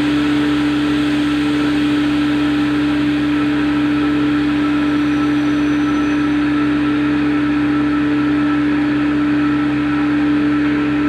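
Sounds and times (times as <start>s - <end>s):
cnc machine humming and whirring: 0.0s - 11.0s.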